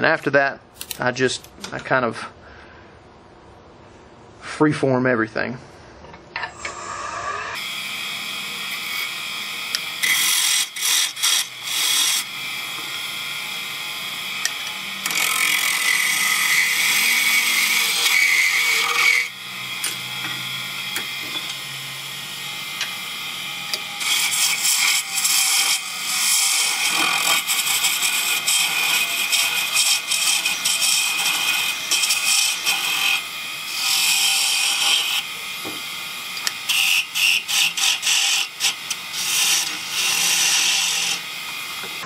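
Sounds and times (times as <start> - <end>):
lathe tool scraping wood: 6.6 - 42.0.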